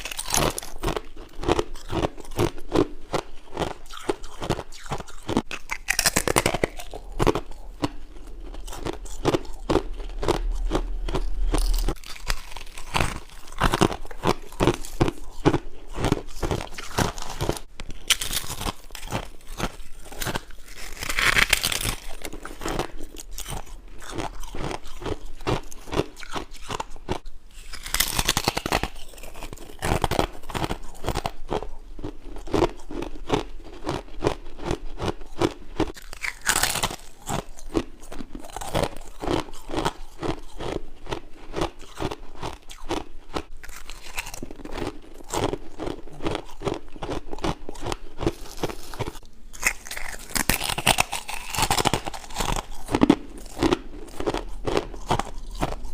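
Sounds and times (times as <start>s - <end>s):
ice crunching in mouth: 0.0s - 55.9s.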